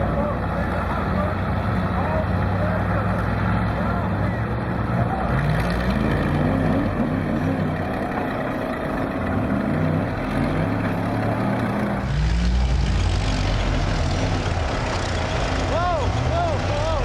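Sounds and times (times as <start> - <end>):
engines revving under strain: 0.0 - 17.0.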